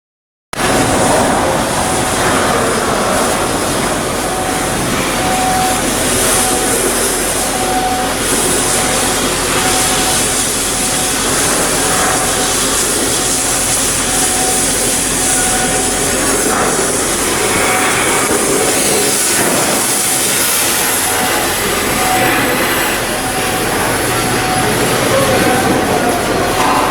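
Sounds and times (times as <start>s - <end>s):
mechanical rumble and hiss: 0.6s - 26.9s.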